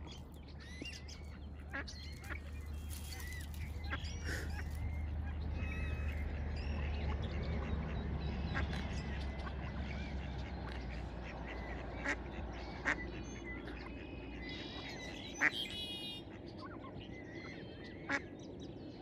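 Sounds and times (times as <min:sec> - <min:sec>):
small birds chirping: 0:00.0 - 0:19.0
ducks quacking: 0:00.9 - 0:16.9.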